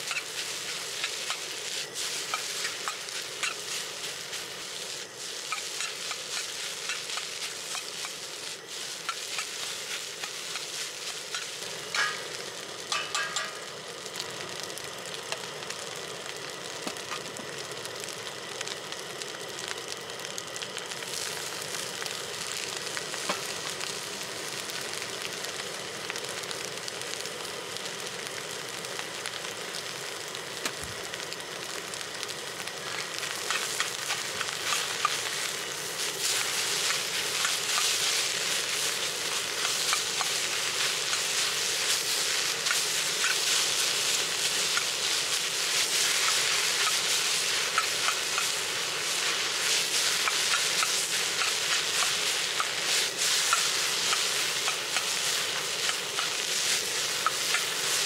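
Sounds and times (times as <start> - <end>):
rice sizzling in a wok: 0.0 - 58.0.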